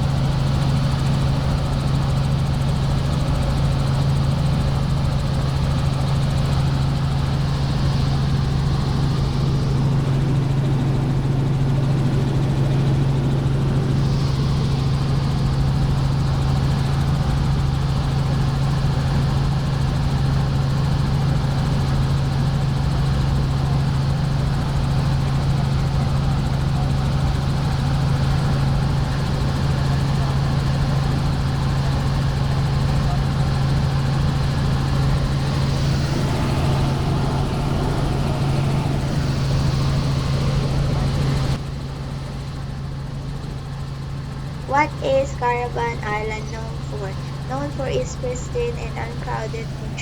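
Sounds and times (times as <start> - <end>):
helicopter engine and rotor drone: 0.0 - 50.0.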